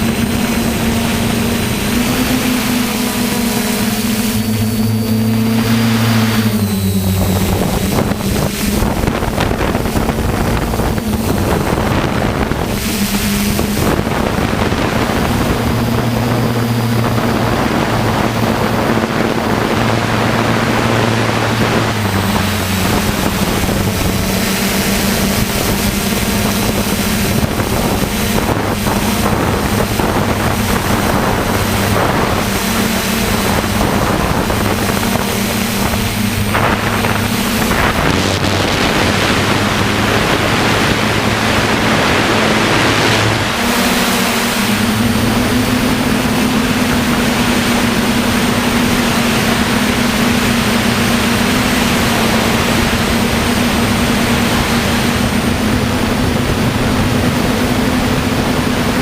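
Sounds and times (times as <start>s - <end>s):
drone propellers buzzing: 0.0s - 59.0s
wind rushing over microphone: 0.0s - 59.0s.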